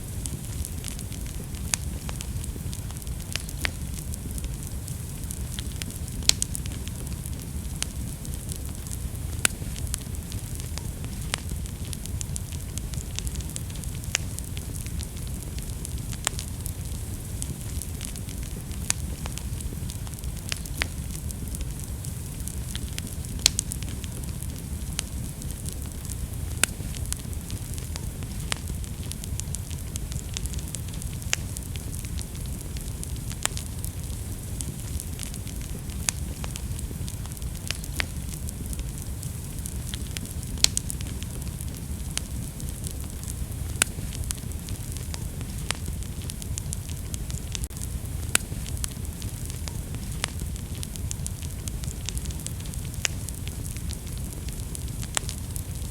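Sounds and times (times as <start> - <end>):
fire crackling and popping: 0.0 - 55.9
flames rushing: 0.0 - 55.9.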